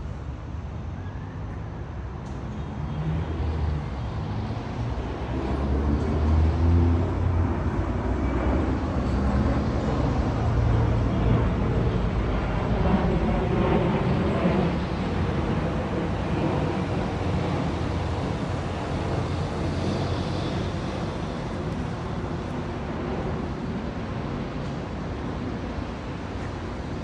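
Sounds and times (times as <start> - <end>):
low engine or traffic rumble: 0.0 - 27.0.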